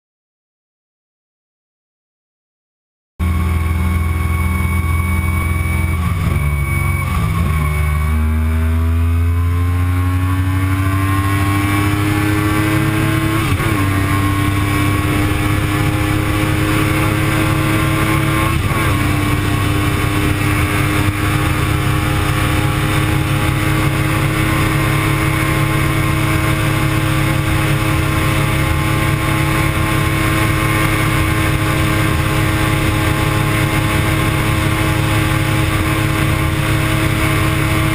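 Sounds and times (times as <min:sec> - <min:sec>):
motorcycle engine at full throttle: 0:03.2 - 0:37.9.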